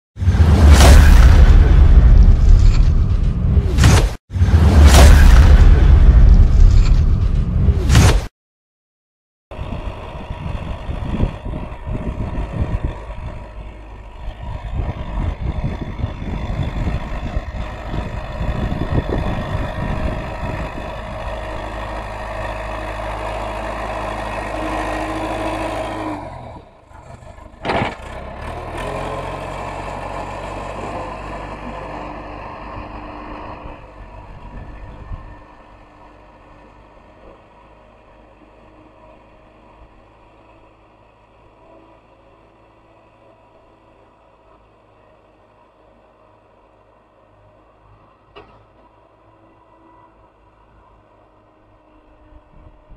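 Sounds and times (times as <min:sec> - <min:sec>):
excavator diesel engine: 0:09.5 - 0:52.9.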